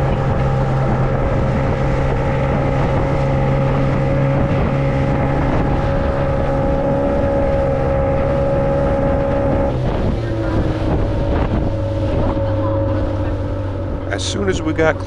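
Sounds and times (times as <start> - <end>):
motorboat engine running: 0.0 - 15.0
wind on microphone: 0.0 - 15.0.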